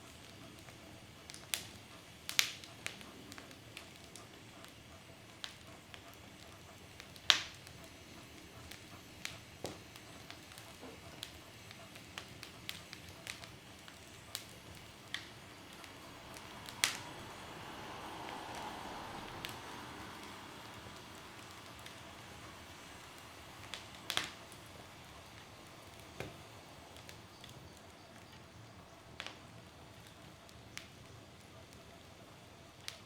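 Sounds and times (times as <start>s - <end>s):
faint steady hiss: 0.0s - 33.0s
wood fire crackling: 0.0s - 33.0s.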